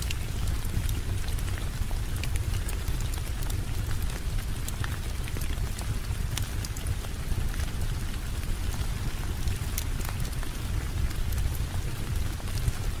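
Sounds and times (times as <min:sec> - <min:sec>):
sharp crackles and ticks: 0:00.0 - 0:13.0
steady rain: 0:00.0 - 0:13.0.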